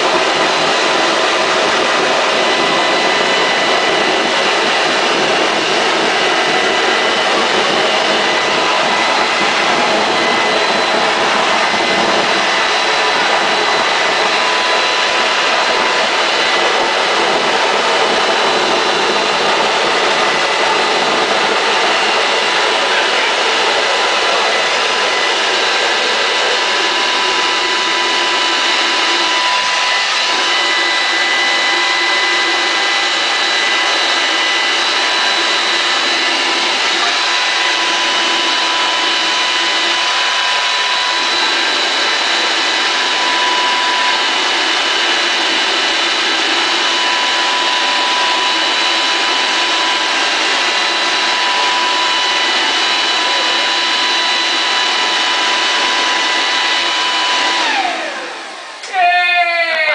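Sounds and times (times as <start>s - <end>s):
high-pitched whine: 0.0s - 59.9s
jet engine rushing roar: 0.0s - 59.9s.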